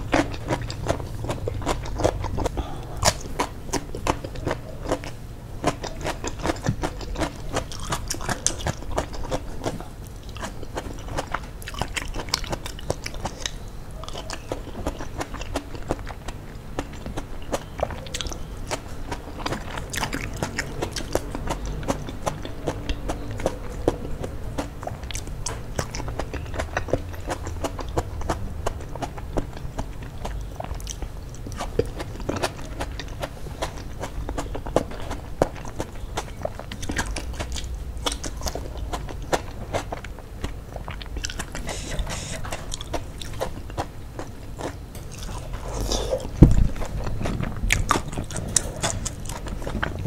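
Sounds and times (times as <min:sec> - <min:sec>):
person biting and chewing: 0:00.0 - 0:50.0.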